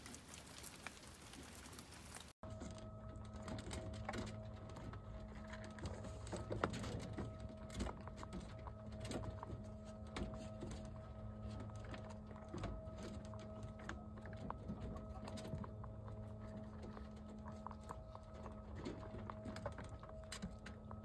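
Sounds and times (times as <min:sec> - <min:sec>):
rabbits crunching pellets: 0:00.0 - 0:21.0.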